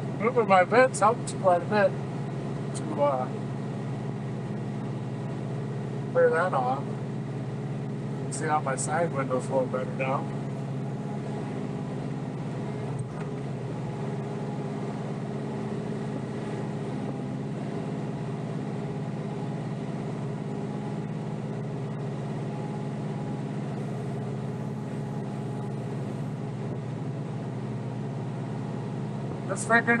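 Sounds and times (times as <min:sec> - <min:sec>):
tractor diesel engine droning: 0:00.0 - 0:30.0.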